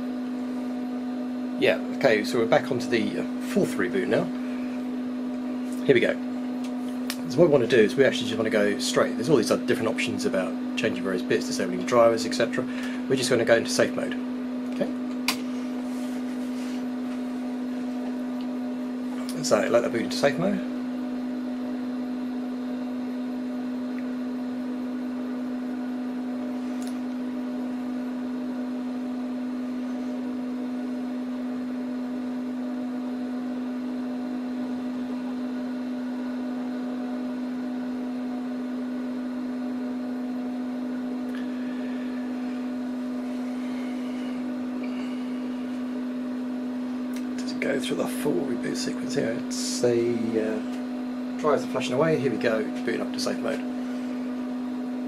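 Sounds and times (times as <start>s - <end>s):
server cooling fans humming: 0.0s - 55.0s.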